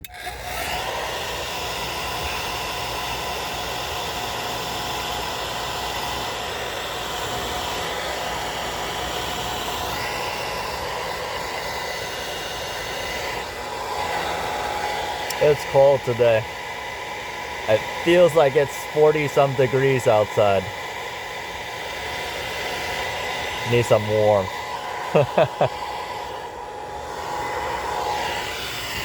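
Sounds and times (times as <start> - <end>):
faint motor whine: 0.0 - 29.0
hair dryer blowing air: 0.0 - 29.0.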